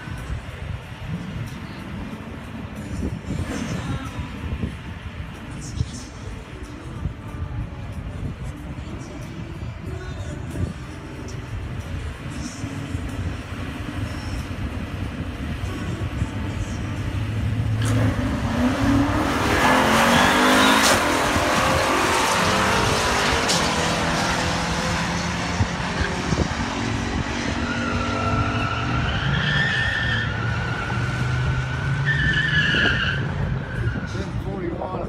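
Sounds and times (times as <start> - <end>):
drag racing cars at full throttle: 0.0 - 9.4, 10.2 - 35.0.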